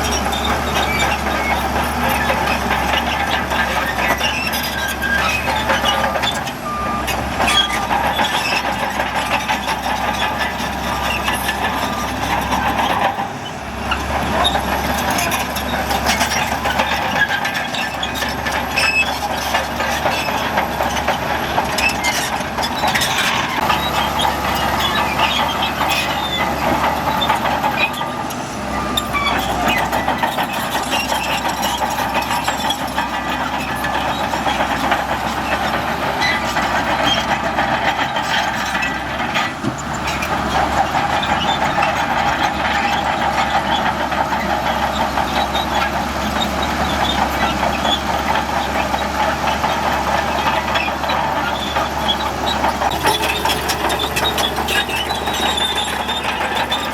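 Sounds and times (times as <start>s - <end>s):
bulldozer diesel engine: 0.0s - 56.9s
steel tracks clanking: 0.0s - 56.9s.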